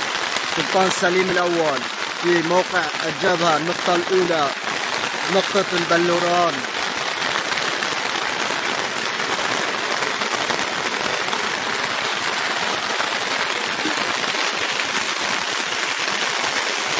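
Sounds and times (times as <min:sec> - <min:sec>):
steady rain falling: 0:00.0 - 0:16.9.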